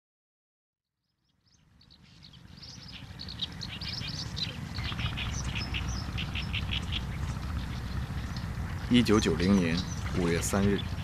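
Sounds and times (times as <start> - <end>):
birds chirping: 1.0 - 11.0
low outdoor rumble: 1.3 - 11.0.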